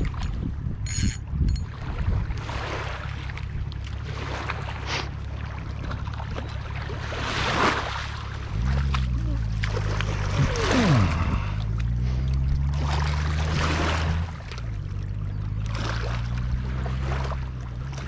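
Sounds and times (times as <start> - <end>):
motorboat engine humming: 0.0 - 18.0
water splashing: 0.0 - 18.0.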